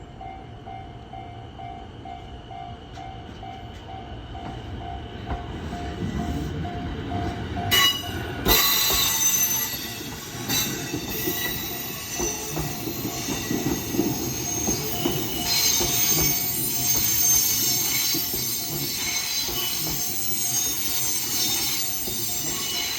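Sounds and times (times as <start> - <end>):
train rumble: 0.0 - 22.9
train wheels squealing: 0.0 - 22.9.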